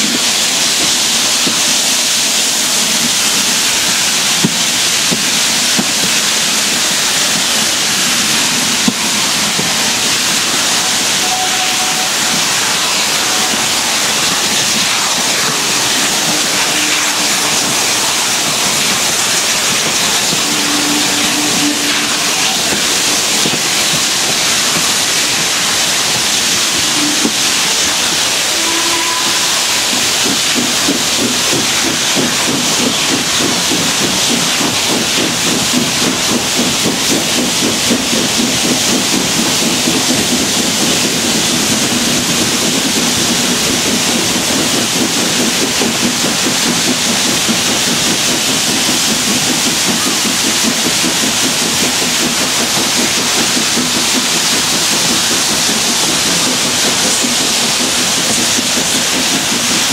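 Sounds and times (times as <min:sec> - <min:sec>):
moving train rushing: 0:00.0 - 0:59.9
steam locomotive exhaust: 0:00.0 - 0:59.9.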